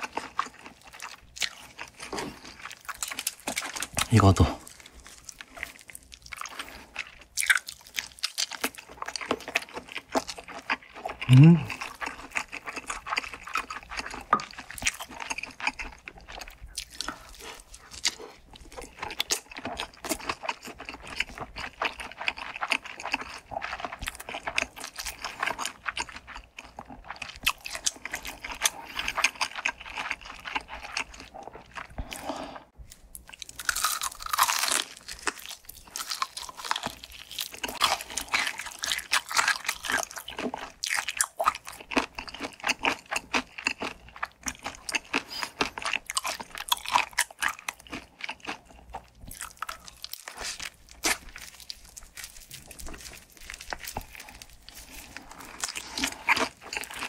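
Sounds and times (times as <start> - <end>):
crunchy bites of fried food: 0.0 - 32.2, 32.9 - 57.0
wet chewing: 0.0 - 57.0.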